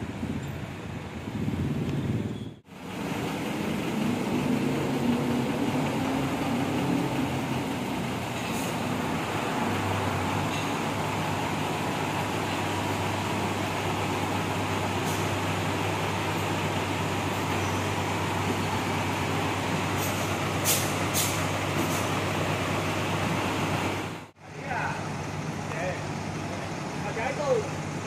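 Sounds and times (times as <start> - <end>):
bus engines running: 0.0 - 28.0
low engine drone: 2.7 - 26.8.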